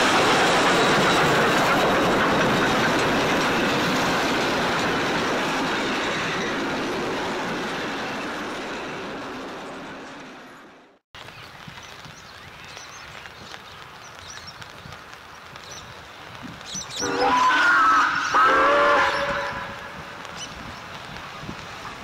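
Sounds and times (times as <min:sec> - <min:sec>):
steam train running past: 0:00.0 - 0:11.0, 0:14.7 - 0:22.0.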